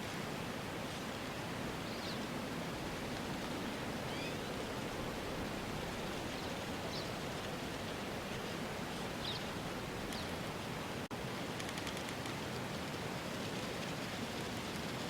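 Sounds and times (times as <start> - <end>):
steady outdoor rustling: 0.0 - 15.0.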